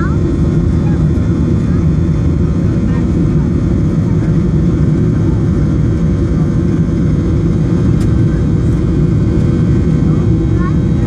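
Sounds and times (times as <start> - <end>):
jet engines at high thrust: 0.0 - 11.0
runway rumble: 0.0 - 11.0.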